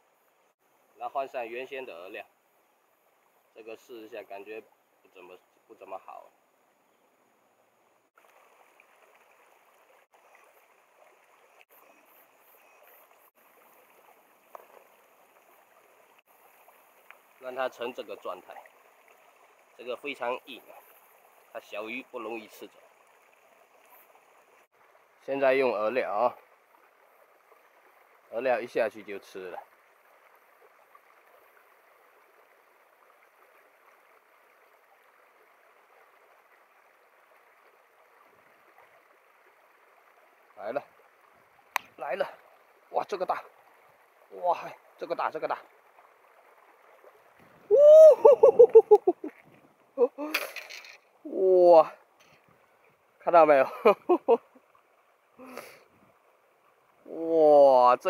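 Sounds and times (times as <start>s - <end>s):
mountain stream rushing: 7.9s - 34.4s, 35.4s - 58.0s.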